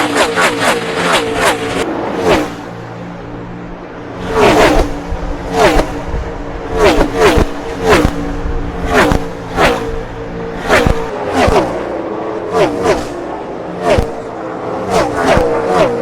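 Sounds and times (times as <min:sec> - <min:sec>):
low engine hum: 0:00.0 - 0:16.0
race car engines passing: 0:00.0 - 0:16.0.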